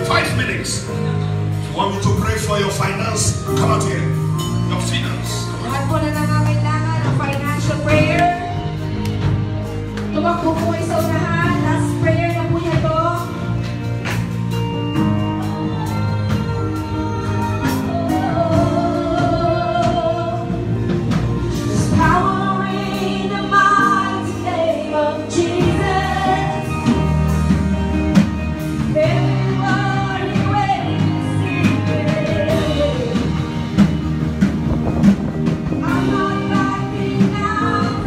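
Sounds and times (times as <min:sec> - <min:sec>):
bass notes: 0:00.0 - 0:38.0.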